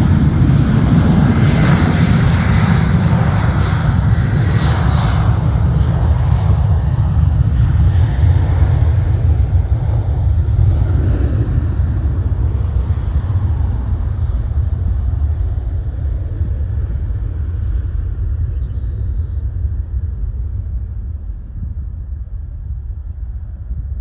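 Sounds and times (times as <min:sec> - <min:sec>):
jet engines at takeoff power: 0:00.0 - 0:24.0.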